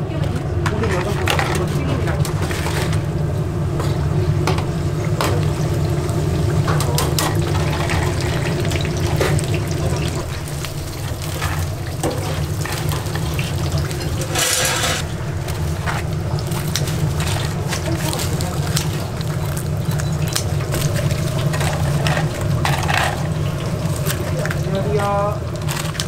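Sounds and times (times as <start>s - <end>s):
steady low hum: 0.0s - 26.0s
utensils and dishes clinking: 0.2s - 3.1s, 6.6s - 15.1s, 15.8s - 26.0s
water running: 0.6s - 26.0s.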